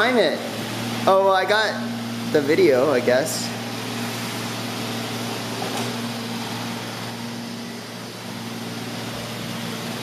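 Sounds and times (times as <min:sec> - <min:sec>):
robotic vacuum cleaner hum: 0:00.0 - 0:10.0.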